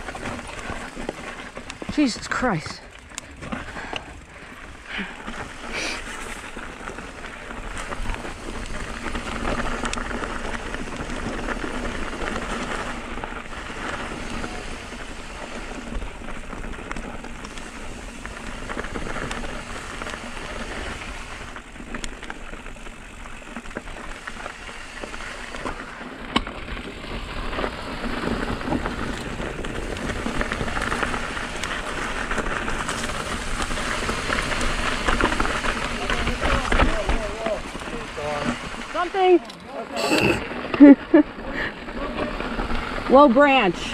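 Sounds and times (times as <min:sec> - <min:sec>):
bike clicks and rattles: 0:00.0 - 0:39.8, 0:40.5 - 0:43.9
tyres hissing on gravel: 0:00.0 - 0:43.9.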